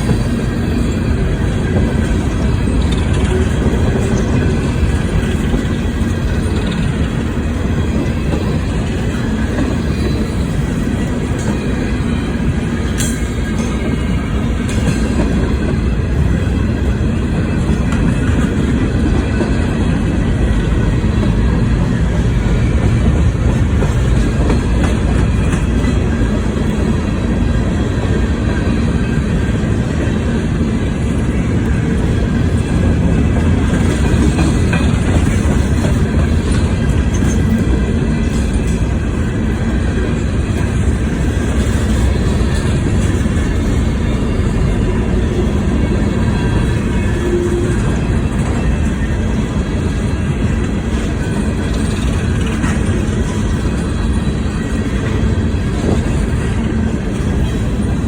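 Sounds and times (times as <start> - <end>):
freight train wheels rumbling on track: 0.0 - 58.0.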